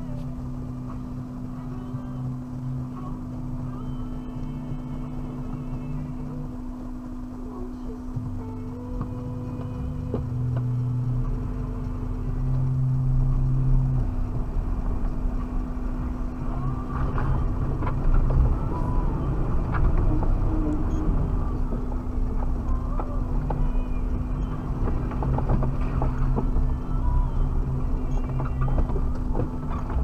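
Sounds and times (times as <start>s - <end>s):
engine and road rumble: 0.0s - 30.0s.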